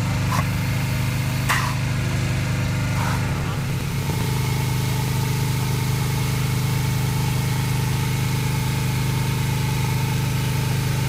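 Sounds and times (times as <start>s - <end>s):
low machine hum: 0.0s - 9.3s.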